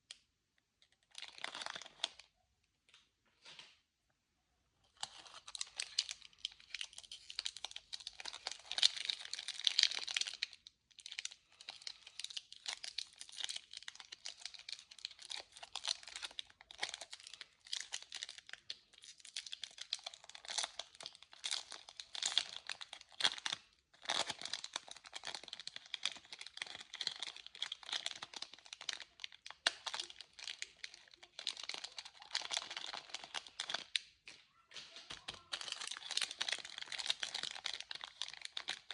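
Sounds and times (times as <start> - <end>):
candy wrappers crinkling: 0.0 - 2.4, 4.8 - 38.9.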